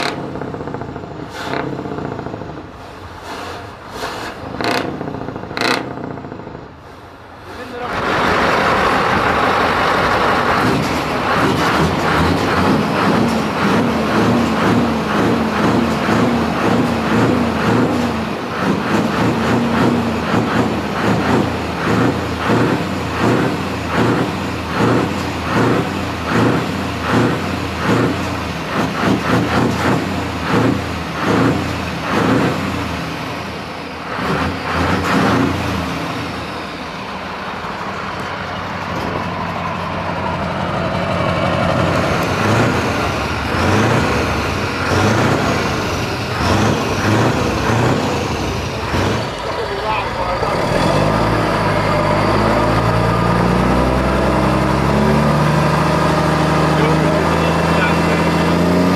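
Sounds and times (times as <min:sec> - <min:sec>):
diesel truck engine revving: 0:00.0 - 0:58.9.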